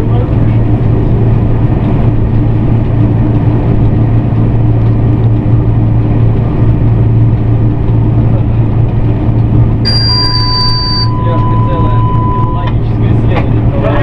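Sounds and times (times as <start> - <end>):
locomotive cab hum and rumble: 0.0 - 14.0.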